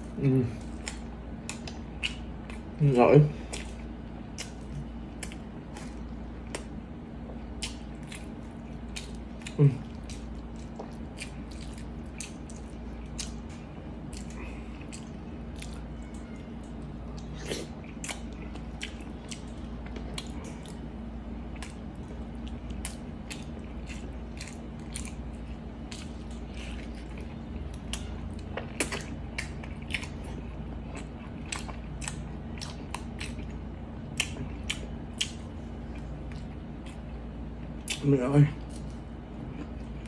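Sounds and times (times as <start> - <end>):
low steady hum: 0.0 - 40.0
wet chewing: 0.0 - 40.0.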